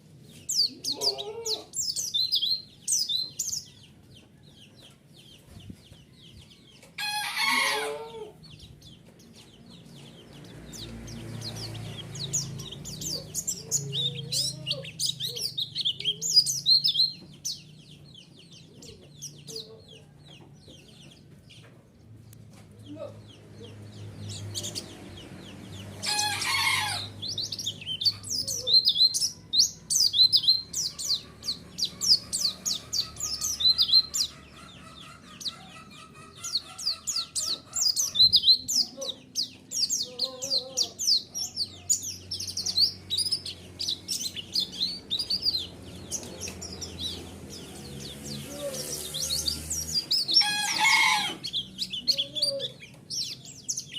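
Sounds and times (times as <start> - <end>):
birds twittering and trilling: 0.0 - 53.9.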